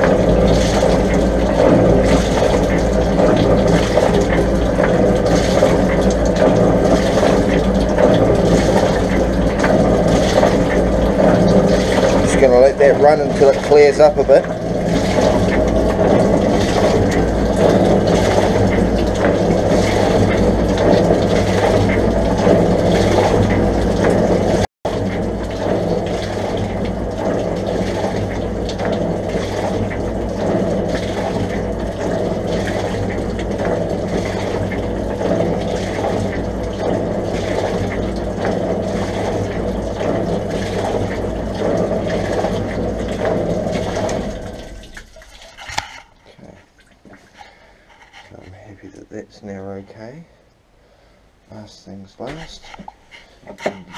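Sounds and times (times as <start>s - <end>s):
water gushing and splashing: 0.0s - 49.5s, 50.9s - 53.9s
pump humming: 0.0s - 53.9s.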